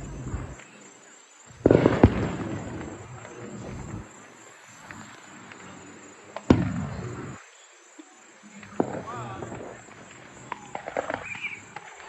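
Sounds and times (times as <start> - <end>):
fireworks booming: 0.0 - 0.8, 1.5 - 7.4, 8.6 - 12.0
faint firework crackles: 0.0 - 12.0.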